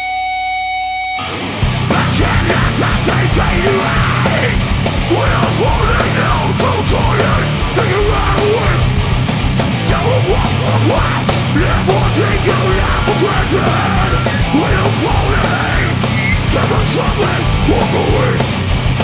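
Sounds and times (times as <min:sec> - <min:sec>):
heavy metal band playing live: 0:00.0 - 0:19.0.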